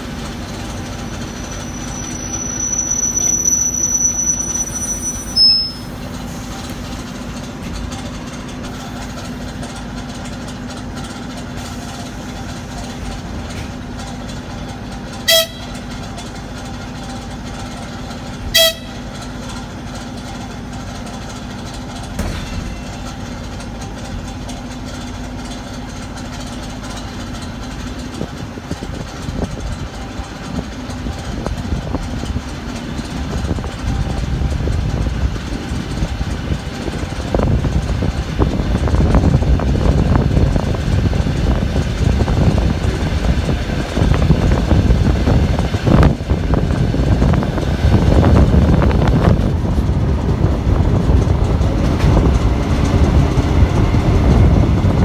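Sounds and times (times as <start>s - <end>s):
clatter over rail joints: 0.0s - 55.0s
electric train hum: 0.0s - 55.0s
wheels rumbling on rails: 0.0s - 55.0s.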